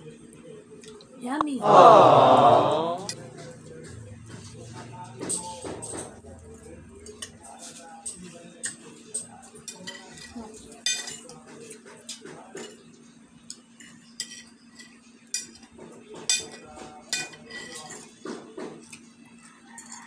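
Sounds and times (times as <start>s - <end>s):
cutlery clinking on plates: 3.2s - 12.9s, 13.5s - 20.0s.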